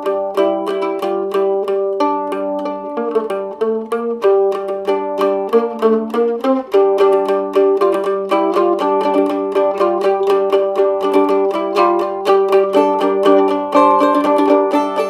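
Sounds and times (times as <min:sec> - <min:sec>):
mandolin plucked melody: 0:00.0 - 0:15.0.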